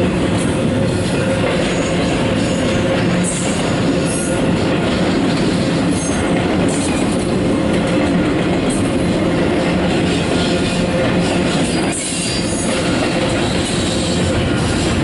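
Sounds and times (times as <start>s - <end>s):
freight train wheels on rail: 0.0s - 15.0s.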